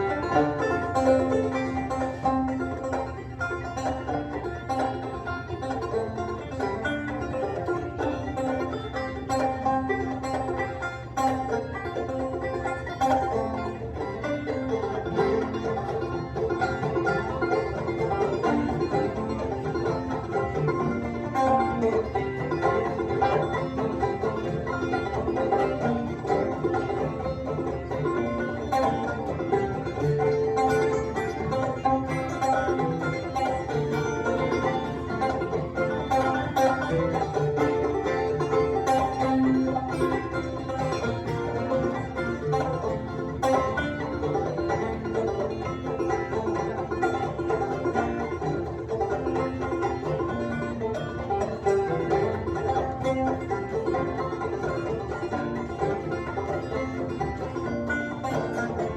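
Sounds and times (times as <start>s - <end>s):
acoustic guitar: 0.0s - 58.9s
banjo: 0.0s - 58.9s.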